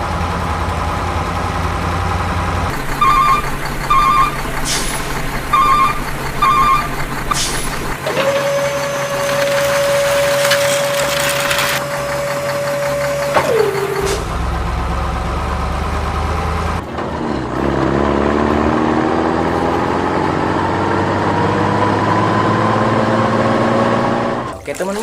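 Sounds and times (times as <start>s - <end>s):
vehicle engine: 0.0s - 24.6s.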